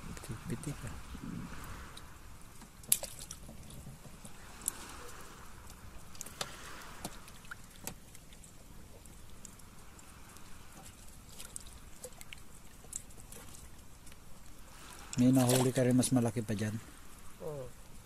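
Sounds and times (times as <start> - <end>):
water and boat noise: 0.0 - 18.0.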